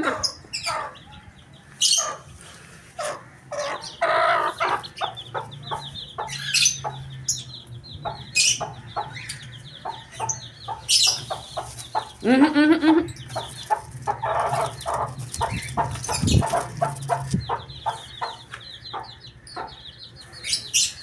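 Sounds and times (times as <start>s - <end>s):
hen clucking: 0.0s - 1.2s, 1.8s - 20.9s
chicks peeping: 0.0s - 21.0s.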